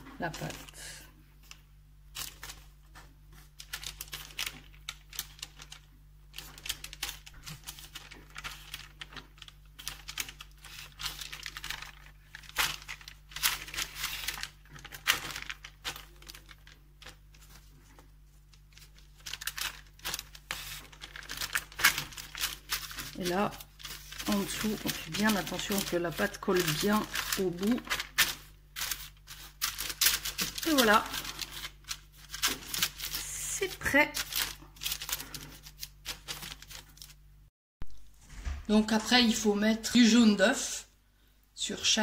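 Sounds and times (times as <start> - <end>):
parchment paper crinkling: 0.0 - 37.2.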